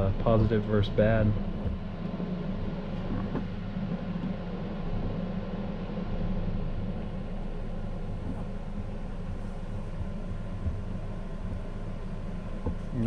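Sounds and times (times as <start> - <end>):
machine low hum: 0.0 - 13.0.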